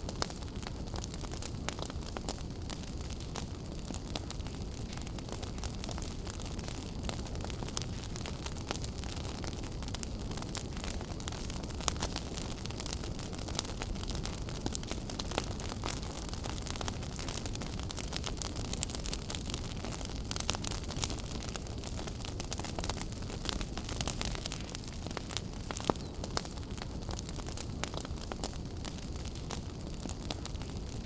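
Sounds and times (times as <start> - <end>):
fire crackling and popping: 0.0 - 31.0
fire flames rumbling: 0.0 - 31.0.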